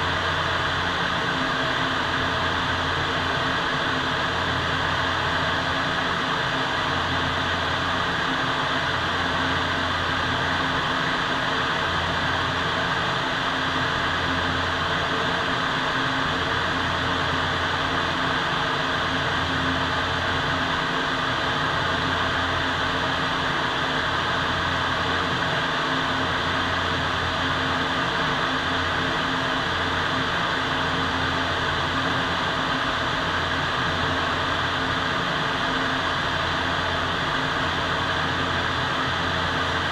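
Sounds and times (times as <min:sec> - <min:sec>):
ventilation fans rushing air: 0:00.0 - 0:39.9.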